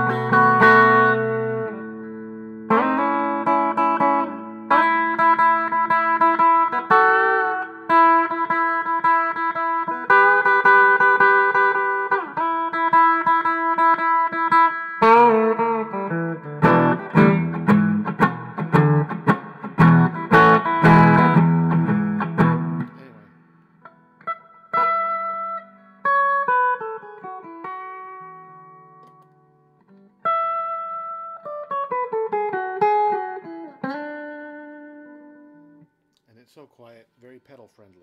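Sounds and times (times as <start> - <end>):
electric guitar through amplifier: 0.0 - 35.8.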